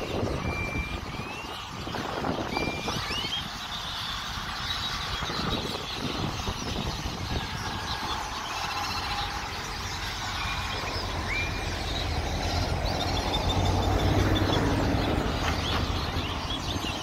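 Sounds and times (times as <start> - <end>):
birds chirping and whistling: 0.0 - 17.0
road traffic rumble: 0.0 - 17.0.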